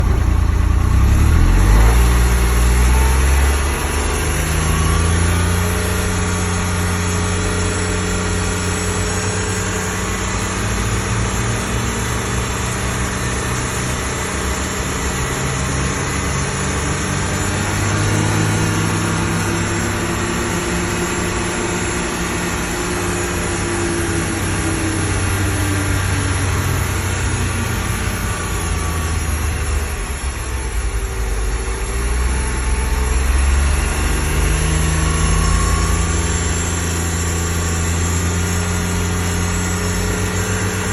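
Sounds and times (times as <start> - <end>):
engine running with whine: 0.0 - 40.9.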